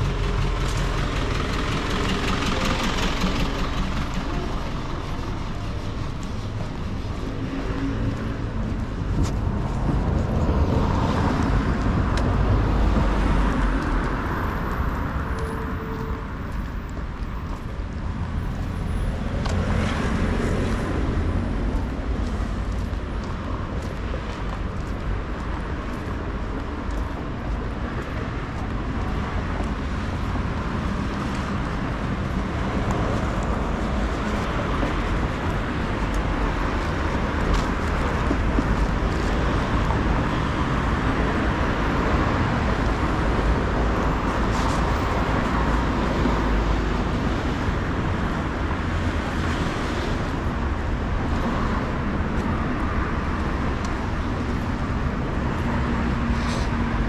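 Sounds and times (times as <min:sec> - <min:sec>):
cars driving past: 0:00.0 - 0:57.0.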